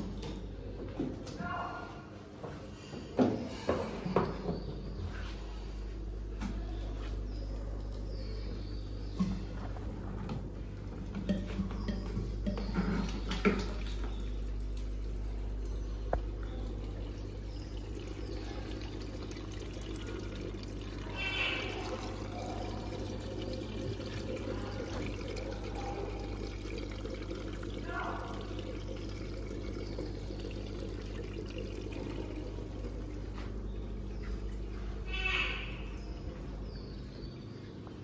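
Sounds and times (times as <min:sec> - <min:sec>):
water trickling into bucket: 0:05.6 - 0:38.0.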